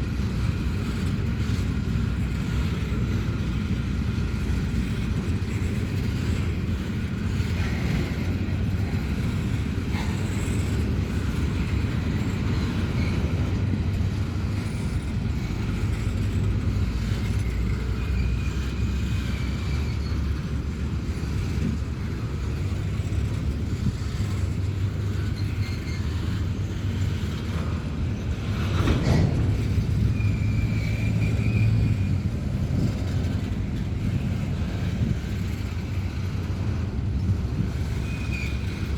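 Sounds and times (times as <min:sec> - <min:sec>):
train rumbling by: 0:00.0 - 0:38.9.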